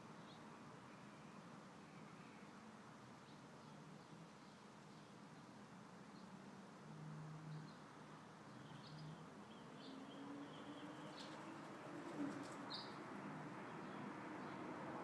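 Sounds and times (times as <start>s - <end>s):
faint wind: 0.0s - 15.0s.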